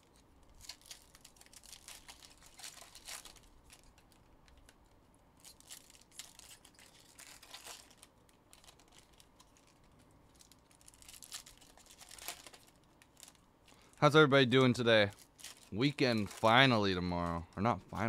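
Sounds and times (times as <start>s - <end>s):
wrapper crinkling and tearing: 0.0s - 18.0s.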